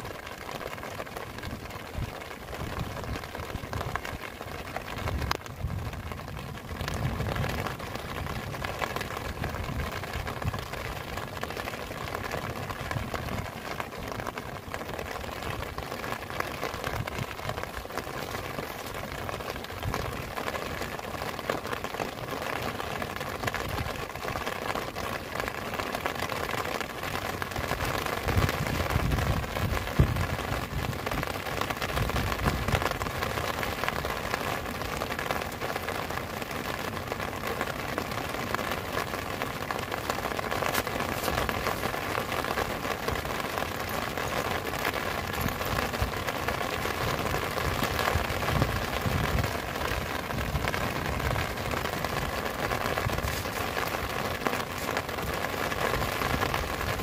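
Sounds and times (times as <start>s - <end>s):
heavy rain on grass: 0.0s - 57.0s.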